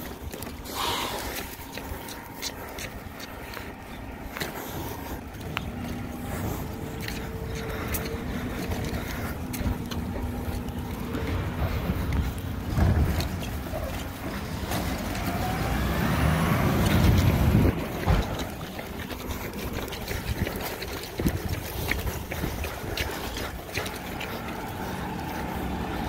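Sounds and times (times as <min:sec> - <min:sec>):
garbage truck engine whining: 0:00.1 - 0:19.8, 0:23.9 - 0:26.0.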